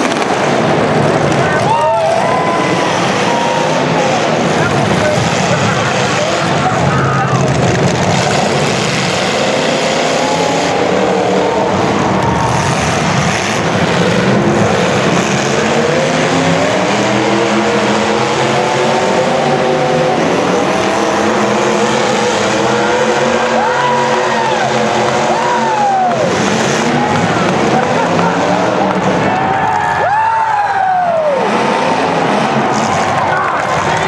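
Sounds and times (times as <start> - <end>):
racing engines accelerating: 0.0 - 34.0.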